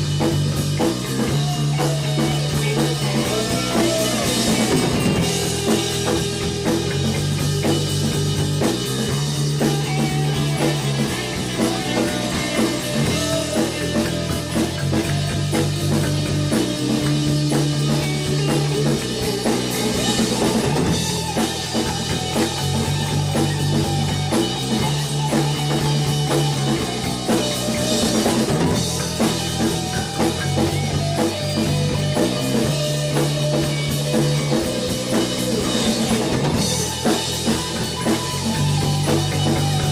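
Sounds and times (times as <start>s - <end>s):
drum kit: 0.0s - 39.9s
electric bass low notes: 0.0s - 39.9s
guitar: 0.0s - 39.9s.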